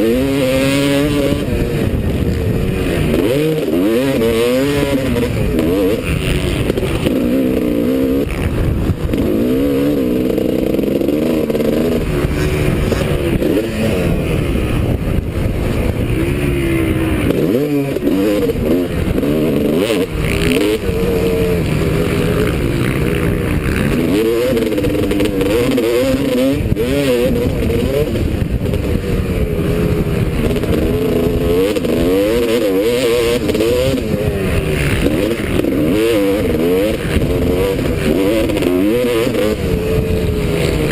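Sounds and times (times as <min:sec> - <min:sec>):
motocross bikes revving: 0:00.0 - 0:40.9.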